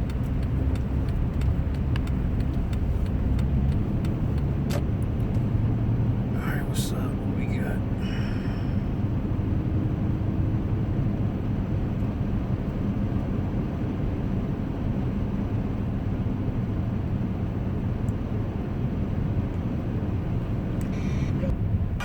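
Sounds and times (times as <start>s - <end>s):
car engine rumble from inside cabin: 0.0s - 22.0s.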